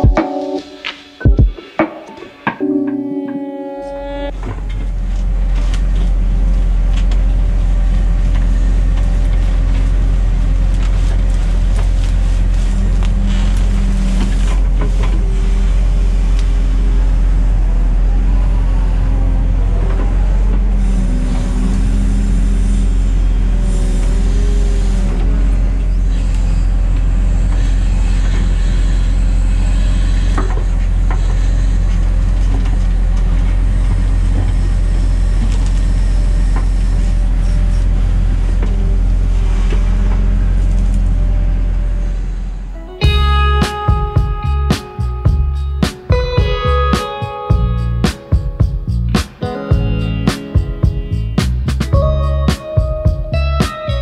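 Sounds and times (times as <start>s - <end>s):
heavy diesel engine droning: 2.4s - 45.8s, 46.5s - 50.3s, 51.0s - 52.6s.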